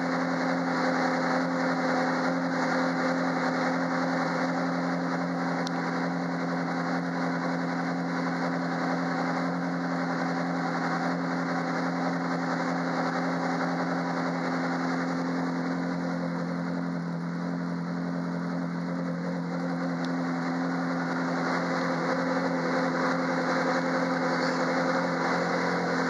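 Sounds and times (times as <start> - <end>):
sports car engine idling: 0.0 - 26.0.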